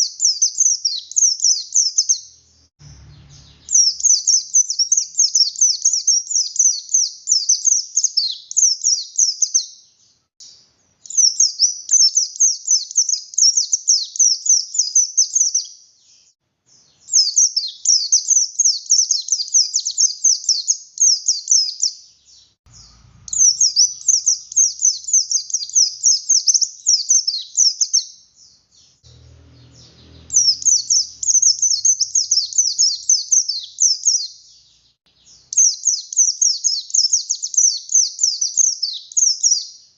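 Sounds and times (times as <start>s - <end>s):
bird singing chattering warble: 0.0s - 9.7s, 17.0s - 39.7s.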